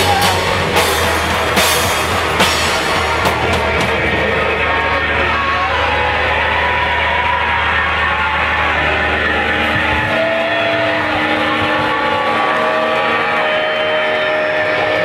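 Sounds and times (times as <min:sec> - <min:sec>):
distorted live band noise: 0:00.0 - 0:15.0
low electric bass drone: 0:00.0 - 0:15.0.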